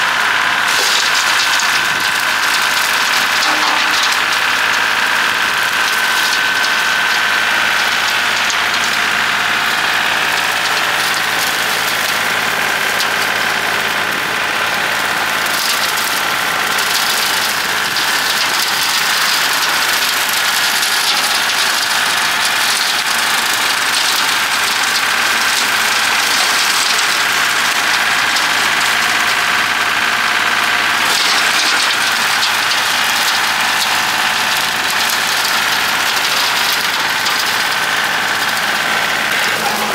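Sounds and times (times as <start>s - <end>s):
diesel tractor running: 0.0s - 39.9s.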